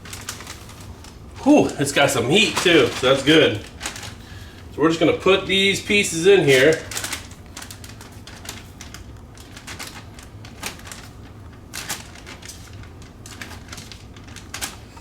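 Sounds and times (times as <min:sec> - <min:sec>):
plastic bag crinkling: 0:00.0 - 0:15.0
steady low hum: 0:00.0 - 0:15.0.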